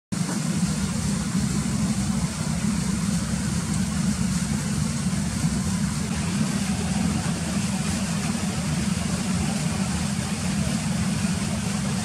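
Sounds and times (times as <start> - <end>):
gas stove burner roaring: 0.2 - 12.0.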